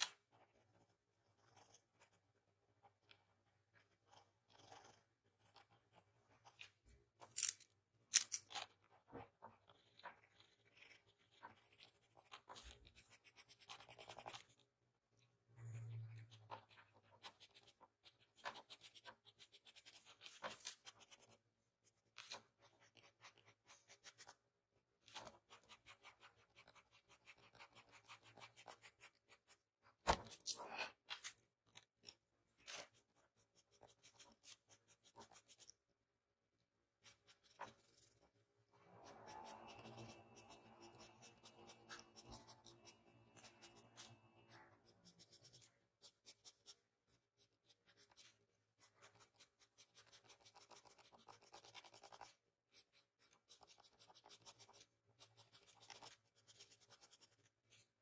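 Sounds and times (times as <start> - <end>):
pencil scratching on paper: 0.0 - 7.2, 8.8 - 31.0, 32.6 - 35.9, 36.8 - 58.0.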